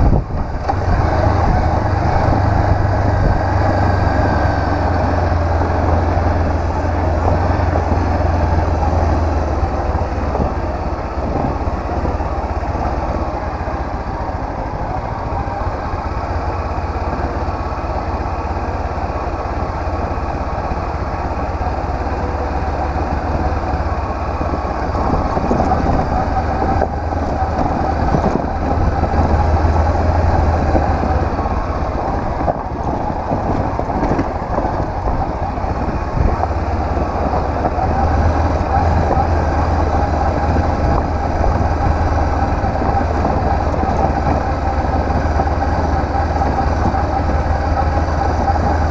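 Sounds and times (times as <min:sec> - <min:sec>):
motorcycle engine rumbling: 0:00.0 - 0:48.9
road noise: 0:00.0 - 0:48.9.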